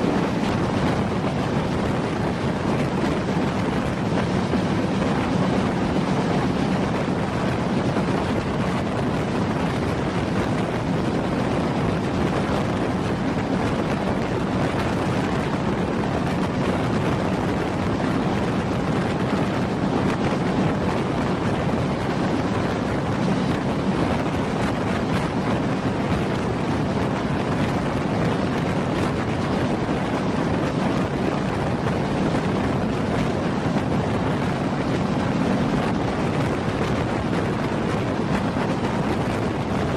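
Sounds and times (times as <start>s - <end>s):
train rumbling: 0.0s - 39.9s
wind on microphone: 0.0s - 39.9s.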